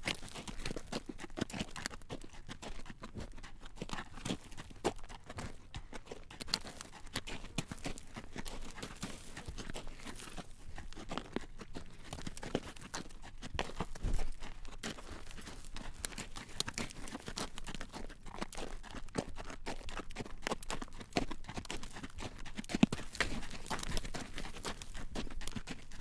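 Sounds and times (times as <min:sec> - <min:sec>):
hooves clacking on road: 0:00.0 - 0:26.0.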